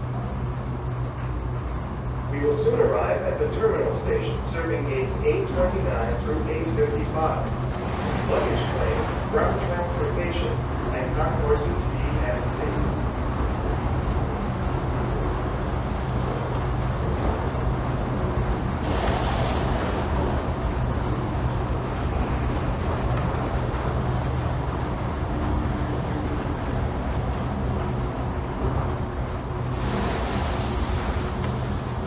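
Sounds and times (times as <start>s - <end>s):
constant low hum: 0.0s - 32.0s
train rumble: 0.0s - 32.0s.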